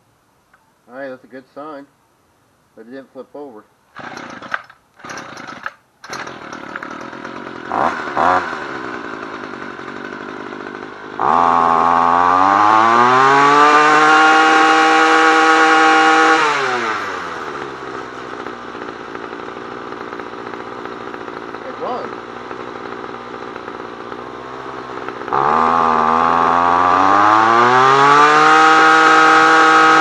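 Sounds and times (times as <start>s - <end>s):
string trimmer engine revving: 3.9s - 30.0s.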